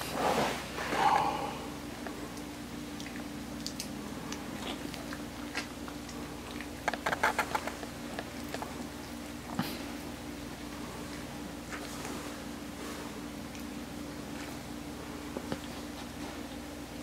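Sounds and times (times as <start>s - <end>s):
steady low hum: 0.0s - 17.0s
puppy chewing food: 2.0s - 16.7s.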